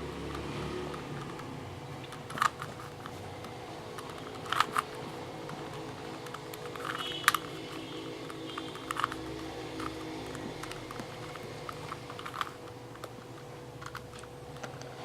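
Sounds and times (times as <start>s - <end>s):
faint steady hum: 0.0s - 15.0s
puzzle cube clacks: 0.2s - 15.0s.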